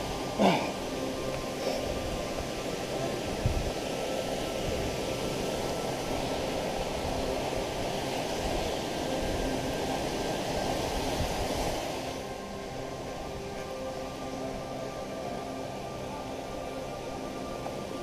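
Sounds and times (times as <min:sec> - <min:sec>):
faint background music: 0:00.0 - 0:18.0
stream flowing over rocks: 0:00.0 - 0:18.0.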